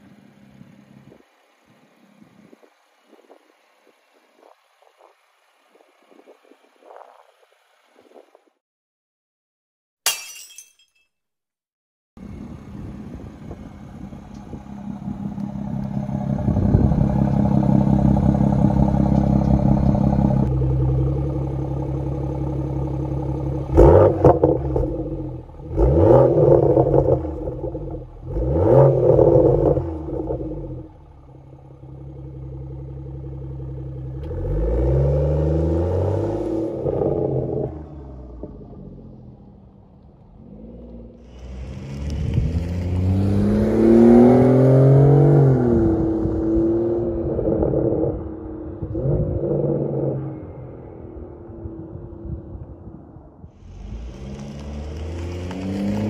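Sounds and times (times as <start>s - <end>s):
car engine idling and revving: 0.0s - 8.6s, 12.2s - 56.0s
car pulling away: 0.0s - 8.6s, 12.2s - 53.0s, 53.6s - 56.0s.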